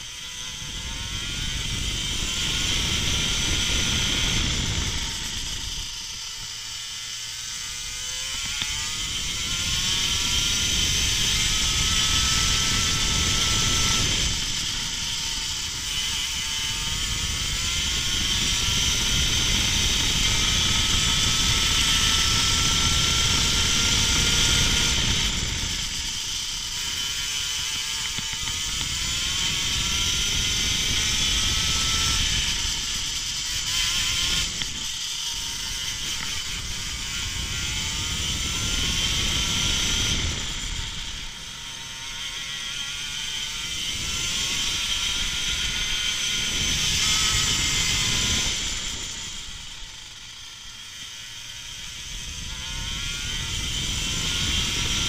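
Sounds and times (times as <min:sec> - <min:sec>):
wind on microphone: 0:00.0 - 0:50.4, 0:51.0 - 0:55.0.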